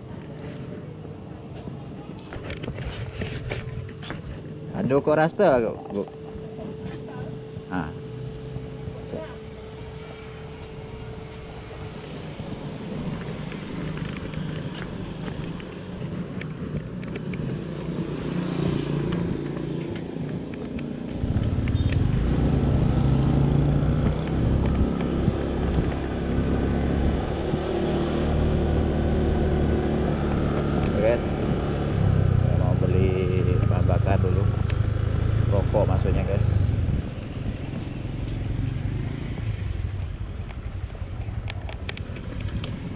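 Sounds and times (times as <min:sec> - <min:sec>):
scooter engine running: 0:08.4 - 0:42.9.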